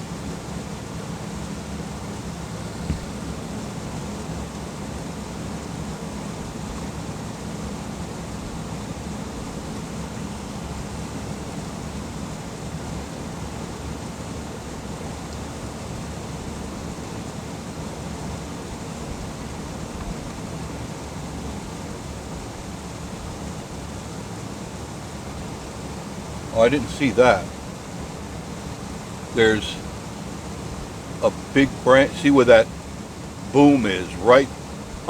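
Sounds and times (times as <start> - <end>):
climate fan blowing: 0.0 - 35.0
engine idling hum: 0.0 - 35.0.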